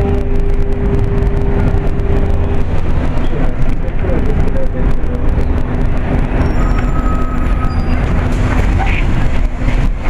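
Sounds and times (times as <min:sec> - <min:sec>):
bus engine and road rumble: 0:00.0 - 0:10.0
constant hum: 0:00.0 - 0:10.0.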